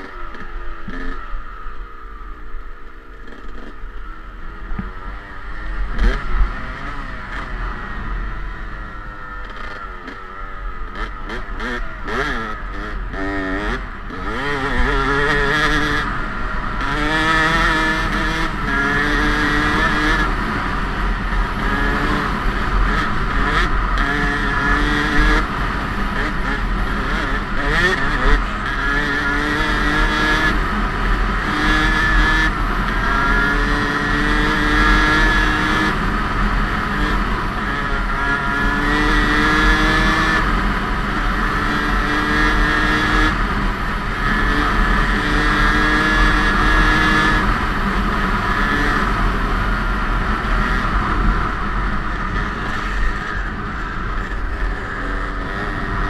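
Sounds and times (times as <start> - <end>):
dirt bike engine revving: 0.0 - 1.5, 3.0 - 56.0.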